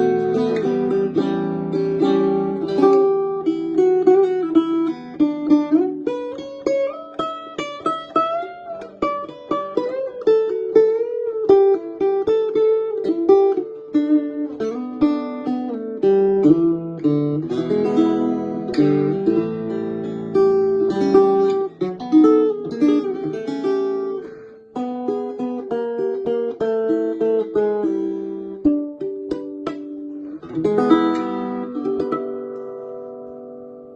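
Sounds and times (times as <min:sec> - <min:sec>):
acoustic guitar picking and strumming: 0:00.0 - 0:33.8.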